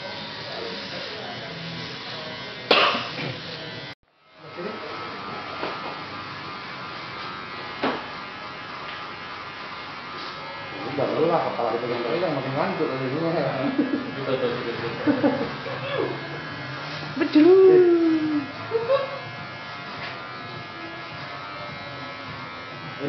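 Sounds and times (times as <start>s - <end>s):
electric hair trimmer buzzing: 0.0s - 23.0s.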